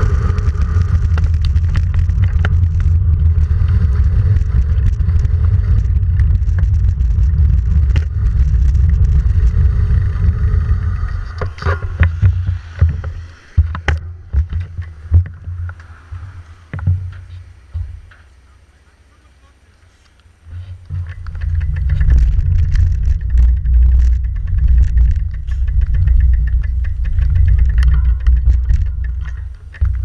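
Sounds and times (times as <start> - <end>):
wind rushing over microphone: 0.0 - 18.1, 20.5 - 30.0
knocks and clicks from bike: 0.0 - 18.3, 20.6 - 30.0.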